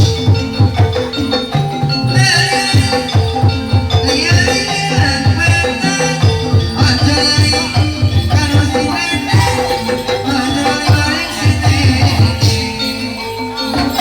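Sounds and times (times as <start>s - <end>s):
hand drums beating: 0.0s - 14.0s
ringing tuned percussion: 0.0s - 14.0s
wavering high melody: 0.0s - 14.0s.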